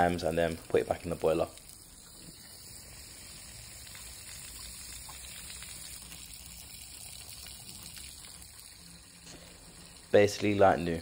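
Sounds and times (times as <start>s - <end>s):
tap water running and draining: 0.0s - 11.0s.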